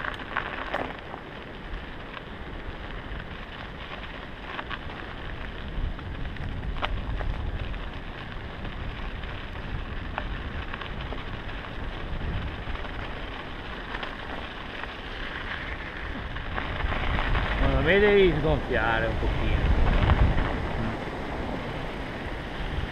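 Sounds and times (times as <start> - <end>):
bike clicks: 0.0 - 21.7
bike tyres rolling on snow: 0.0 - 22.9.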